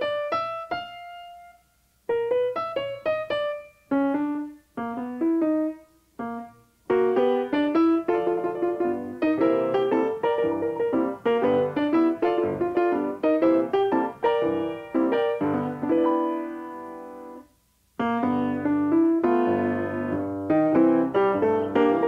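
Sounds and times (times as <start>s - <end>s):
piano notes and chords: 0.0s - 22.0s.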